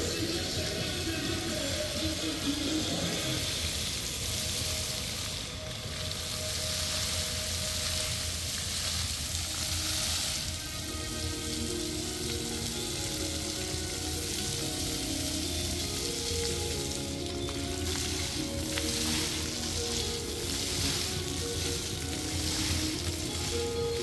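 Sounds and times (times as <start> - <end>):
faint music: 0.0 - 24.0
fountain jets spraying and splashing: 0.0 - 24.0.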